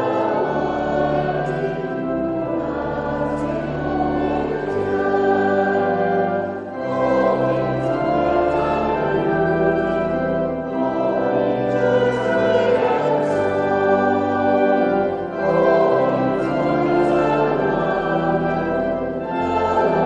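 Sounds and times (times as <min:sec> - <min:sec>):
choir singing sustained chords: 0:00.0 - 0:20.0
orchestral accompaniment: 0:00.0 - 0:20.0.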